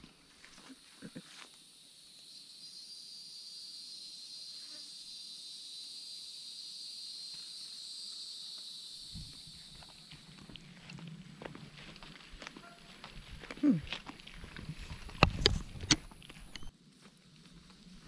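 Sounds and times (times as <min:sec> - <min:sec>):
insects calling: 0:00.0 - 0:16.7.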